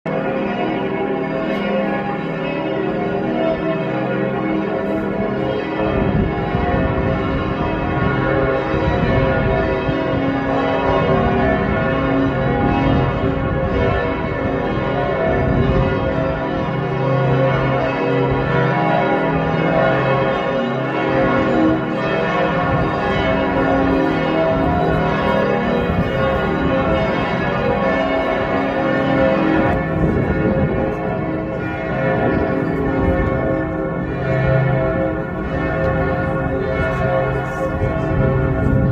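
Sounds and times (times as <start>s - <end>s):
church bells pealing: 0.1s - 38.9s.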